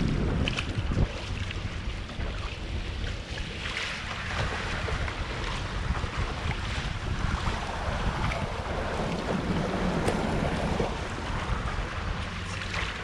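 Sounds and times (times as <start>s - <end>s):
water rushing along hulls: 0.0s - 13.0s
wind rumble on microphone: 0.0s - 13.0s.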